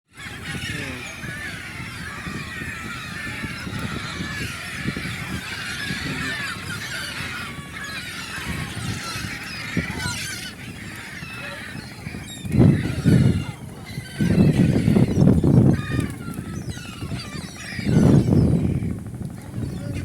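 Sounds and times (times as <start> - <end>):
seagulls calling: 0.1 - 20.0.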